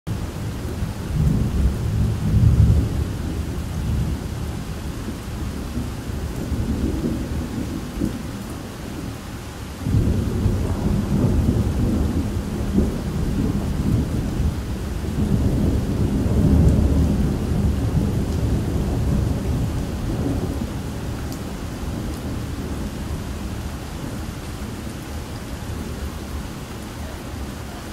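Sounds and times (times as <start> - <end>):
steady rain: 0.1 - 27.9
thunder rumbling: 0.7 - 9.1, 9.8 - 27.9.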